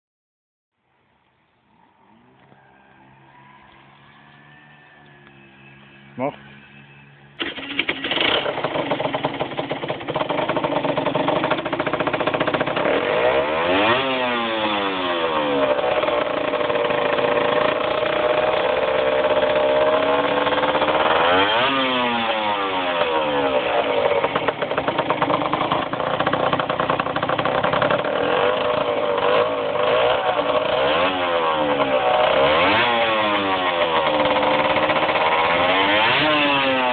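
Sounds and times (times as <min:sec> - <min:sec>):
small motorbike engine revving: 0:02.2 - 0:36.9.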